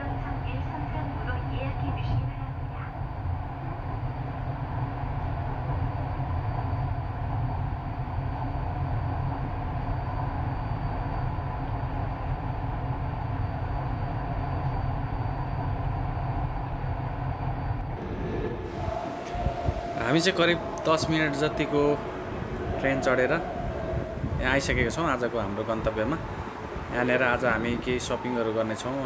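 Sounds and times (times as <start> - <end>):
train rumbling: 0.0 - 10.6, 12.2 - 29.0
faint high whine: 0.0 - 29.0.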